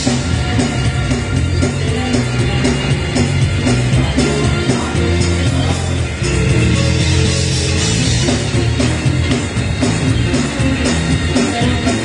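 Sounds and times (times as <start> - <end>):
bass line: 0.0 - 12.0
drum kit beat: 0.0 - 12.0
keyboard: 0.0 - 12.0.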